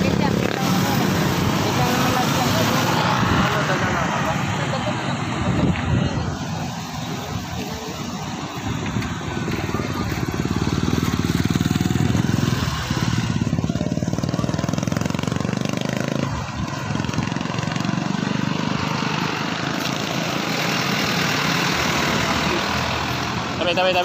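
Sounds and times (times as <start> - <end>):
small motorcycle engine running: 0.0 - 24.0.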